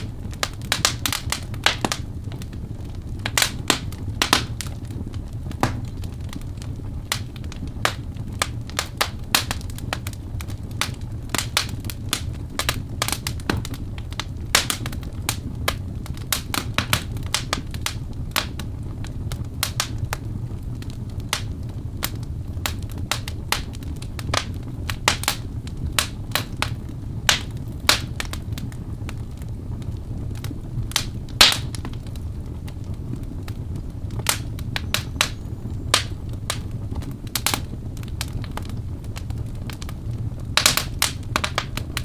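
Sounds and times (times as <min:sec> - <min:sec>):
fire crackling and popping: 0:00.0 - 0:42.0
low rumble of flames: 0:00.0 - 0:42.0.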